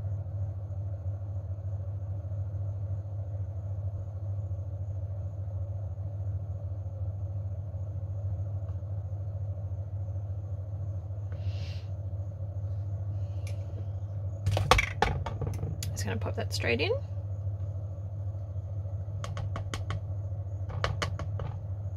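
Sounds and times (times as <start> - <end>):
steady low motor hum: 0.0 - 21.9.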